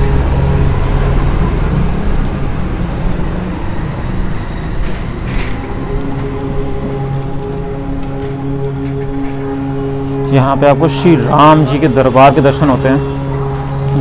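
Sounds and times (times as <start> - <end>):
motor vehicle engines rumbling: 0.0 - 14.0.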